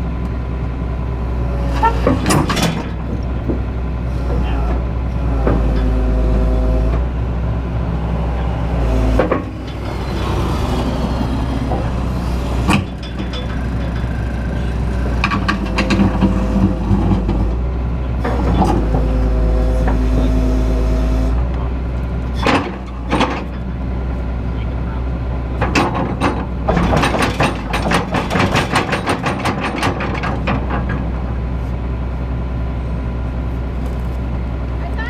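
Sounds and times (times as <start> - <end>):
excavator engine rumbling: 0.0 - 35.0
hydraulics whining: 0.0 - 35.0.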